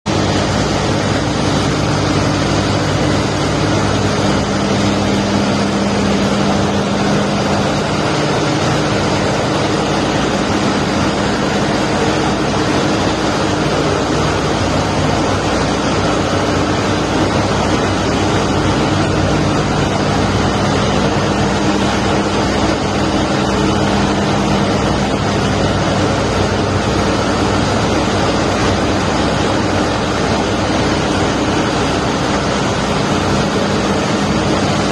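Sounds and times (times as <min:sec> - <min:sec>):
ship engine machinery drone: 0:00.1 - 0:34.9.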